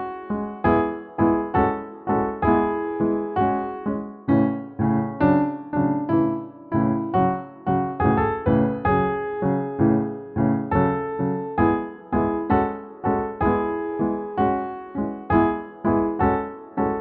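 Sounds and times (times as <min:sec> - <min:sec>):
keyboard chords: 0:00.0 - 0:17.0.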